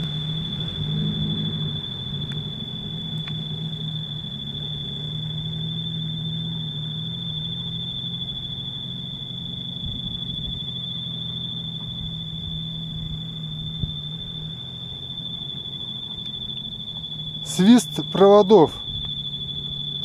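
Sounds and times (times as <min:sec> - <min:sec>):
low steady hum: 0:00.0 - 0:20.0
wires whistling in wind: 0:00.0 - 0:20.0.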